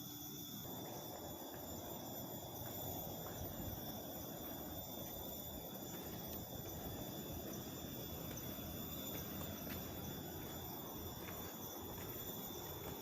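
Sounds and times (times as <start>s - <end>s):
insects chirring: 0.0s - 13.0s
low outdoor rush: 0.0s - 13.0s.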